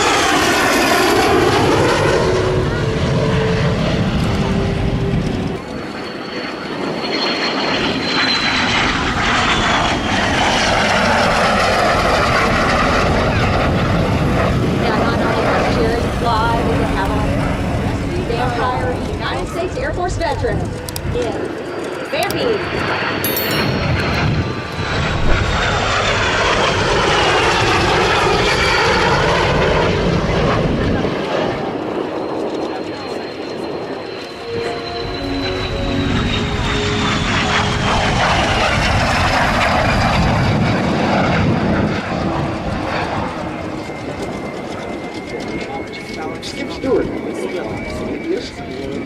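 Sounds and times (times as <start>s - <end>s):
high engine whine: 0.0s - 22.3s, 23.1s - 46.4s
jet aircraft flying past: 0.0s - 49.0s.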